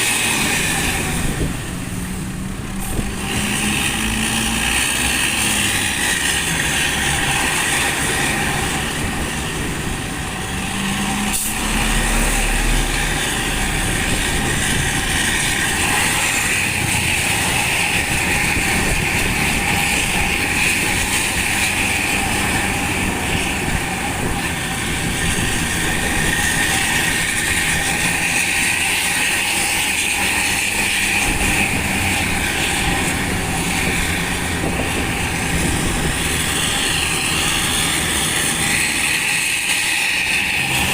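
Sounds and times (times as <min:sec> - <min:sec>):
bus diesel exhaust note: 0:00.0 - 0:40.9
road and wind noise: 0:00.0 - 0:40.9.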